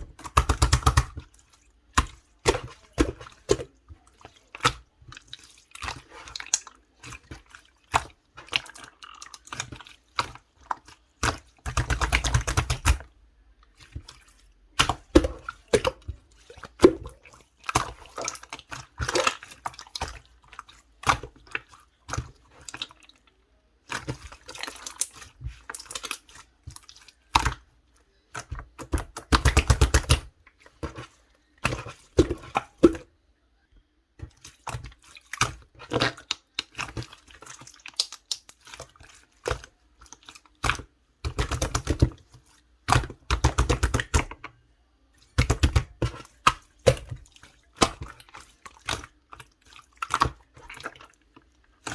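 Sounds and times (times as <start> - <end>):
slime squishing with sticky clicks: 0.0 - 51.9.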